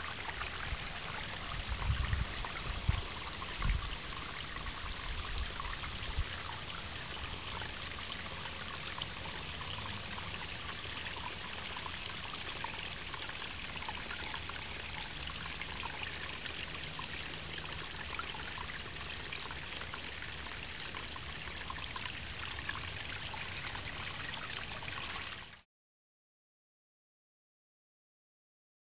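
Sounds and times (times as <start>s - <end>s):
water trickling over rocks: 0.0s - 25.6s.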